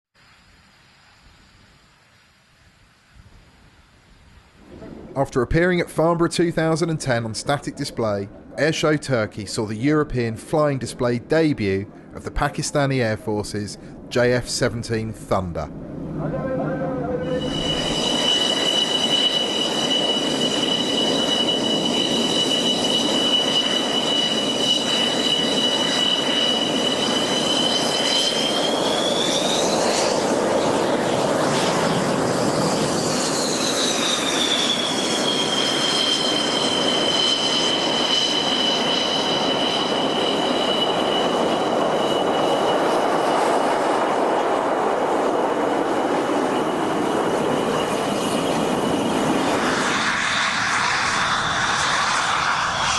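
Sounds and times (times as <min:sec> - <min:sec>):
jet roar with high whine: 0:00.2 - 0:52.9.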